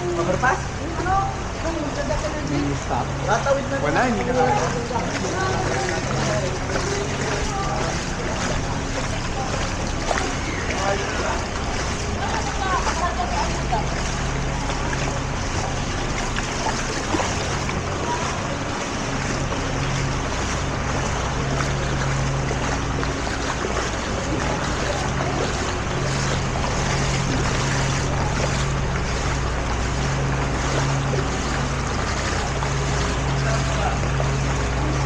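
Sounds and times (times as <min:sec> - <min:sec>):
rushing water: 0:00.0 - 0:35.0
vehicle engine humming: 0:00.0 - 0:35.0
wind: 0:00.0 - 0:35.0.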